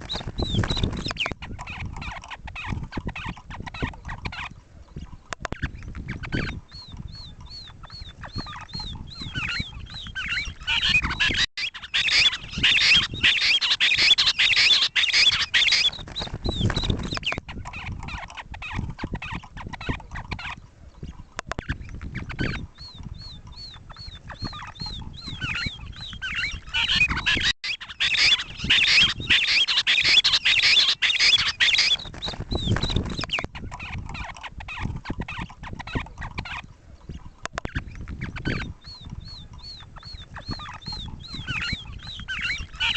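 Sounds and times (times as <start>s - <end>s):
recorded bird calls: 0.0s - 42.9s.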